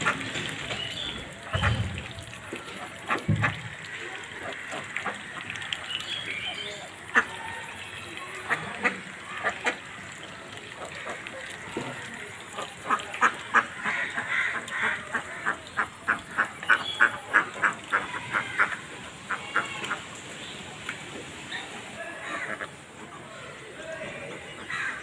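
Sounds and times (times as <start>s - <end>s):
ducks quacking: 0.0s - 20.5s, 21.6s - 23.4s, 24.1s - 25.0s.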